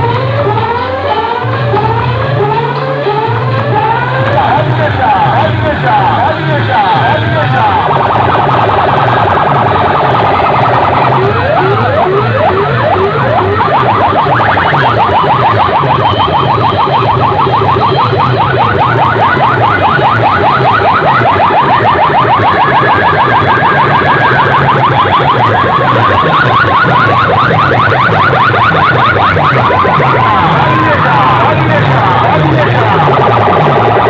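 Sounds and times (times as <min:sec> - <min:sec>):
fast pulsing bass: 0:00.0 - 0:34.0
rising siren chirps: 0:00.0 - 0:34.0.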